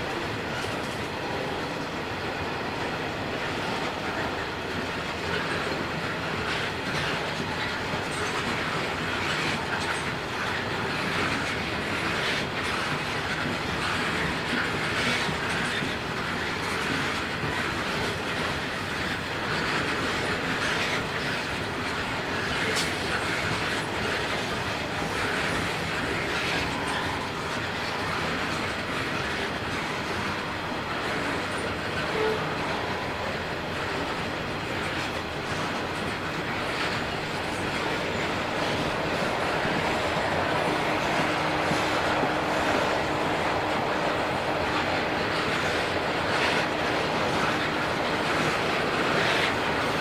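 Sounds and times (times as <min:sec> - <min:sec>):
freight train wheels clattering: 0:00.0 - 0:50.0.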